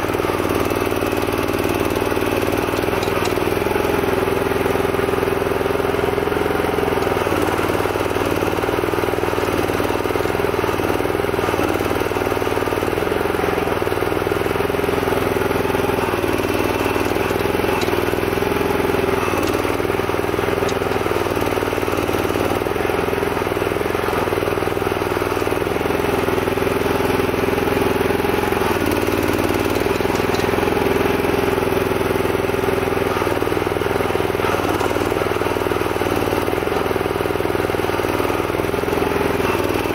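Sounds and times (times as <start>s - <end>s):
excavator petrol engine running: 0.0s - 39.9s.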